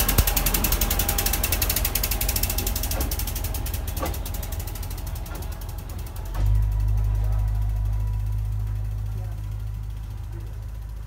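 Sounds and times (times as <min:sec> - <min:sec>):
rail vehicle engine clattering: 0:00.0 - 0:11.0.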